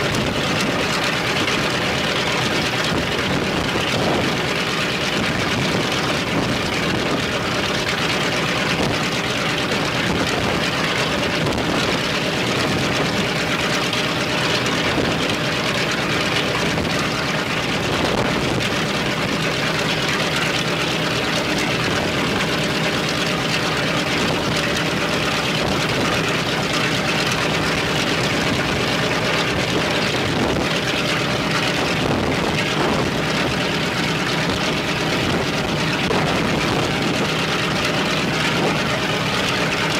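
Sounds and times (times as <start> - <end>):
radial aircraft engine running: 0.0 - 39.9.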